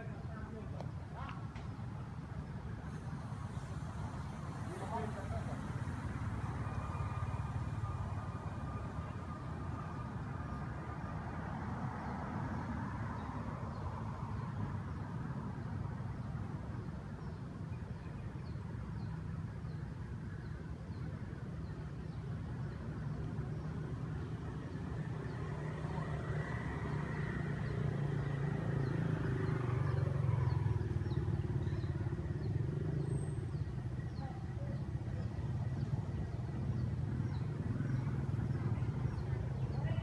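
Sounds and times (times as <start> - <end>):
vehicle engine rumble: 0.0 - 40.0.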